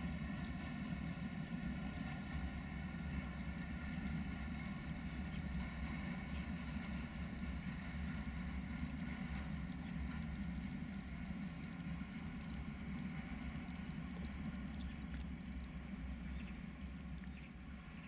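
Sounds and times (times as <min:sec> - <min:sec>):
distant freight train rumbling: 0:00.0 - 0:18.0.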